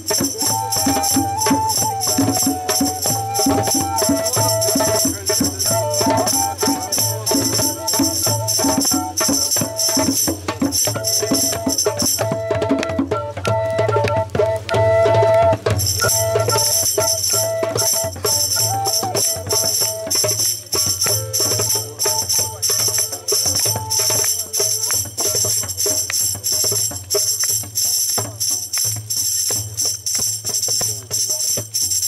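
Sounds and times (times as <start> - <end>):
tambourine jingling: 0.0 - 12.5, 15.6 - 32.0
hand drum strokes: 0.0 - 32.0.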